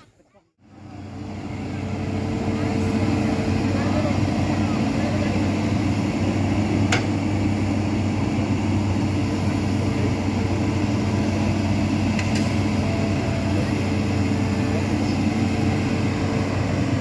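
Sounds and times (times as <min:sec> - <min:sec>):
excavator diesel engine running: 0:00.6 - 0:17.0.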